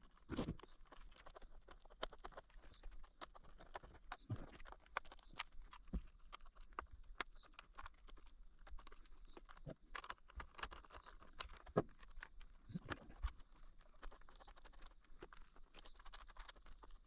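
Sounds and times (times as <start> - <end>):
small hard objects clicking and tapping: 0.0 - 17.0.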